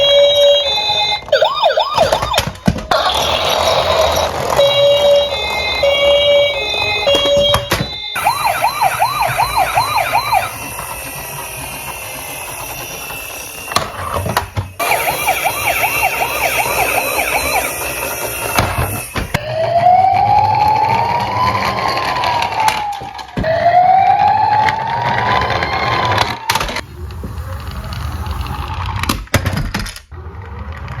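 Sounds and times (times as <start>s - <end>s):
siren fast yelp: 0.0s - 28.7s
siren slow rising wail: 0.0s - 29.1s.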